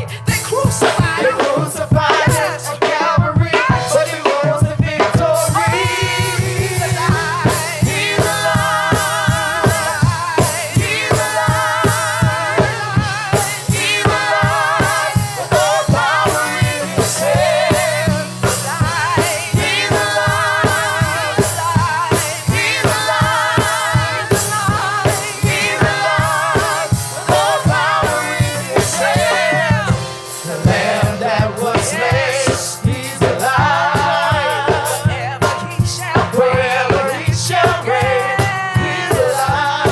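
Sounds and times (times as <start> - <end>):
choir singing gospel: 0.0 - 39.9
drum beat and band: 0.0 - 39.9.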